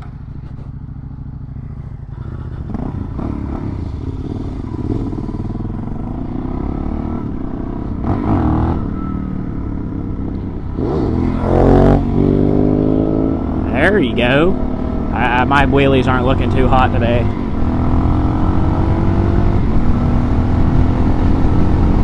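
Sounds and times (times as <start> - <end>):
dirt bike engine revving: 2.0 - 22.0.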